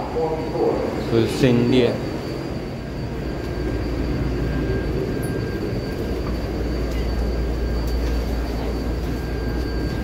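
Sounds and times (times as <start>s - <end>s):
faint high whine: 0.0s - 10.0s.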